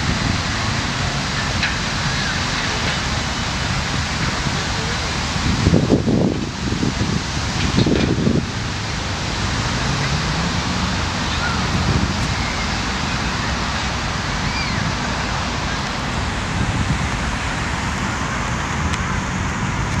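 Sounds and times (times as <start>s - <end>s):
road traffic rumble: 0.0s - 20.0s
wind noise on microphone: 0.0s - 20.0s.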